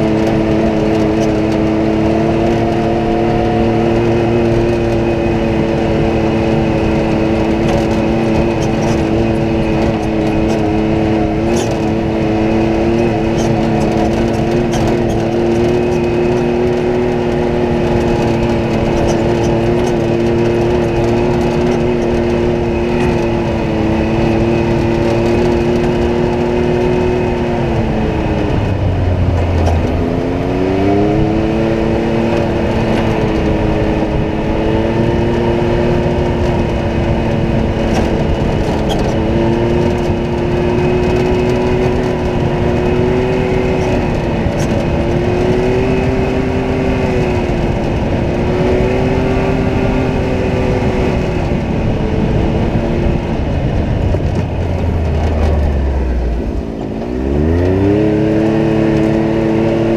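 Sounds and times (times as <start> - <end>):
vehicle engine revving under load: 0.0 - 59.9.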